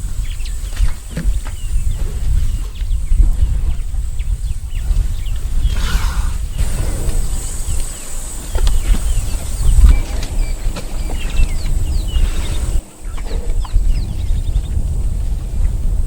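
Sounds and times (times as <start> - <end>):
birds chirping and whistling: 0.0 - 15.8.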